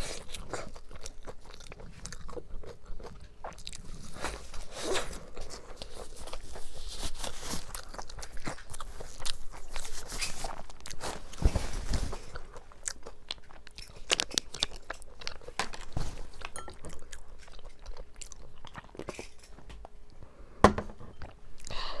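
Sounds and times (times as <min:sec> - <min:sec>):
crunchy fried food chewing: 0:00.0 - 0:19.5.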